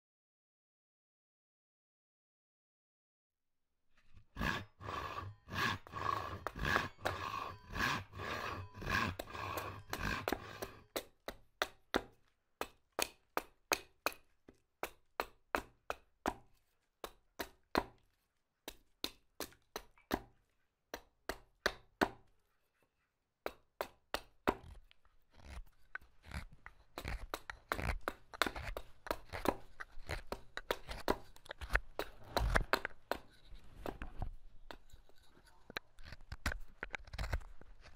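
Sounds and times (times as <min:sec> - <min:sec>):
carving tool cutting wood: 0:04.0 - 0:18.0, 0:18.7 - 0:22.3, 0:23.4 - 0:37.9.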